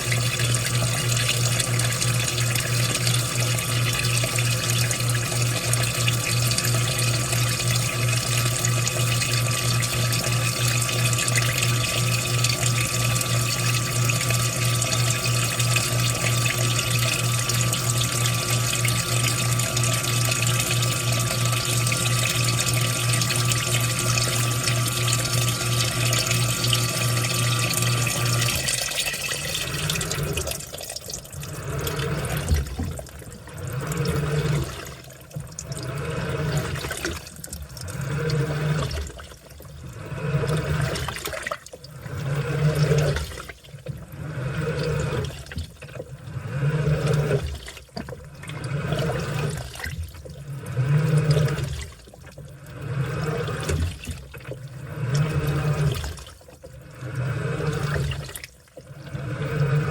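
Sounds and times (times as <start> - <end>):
hum with rushing water: 0.0 - 56.3
washing machine motor surging: 0.0 - 59.9.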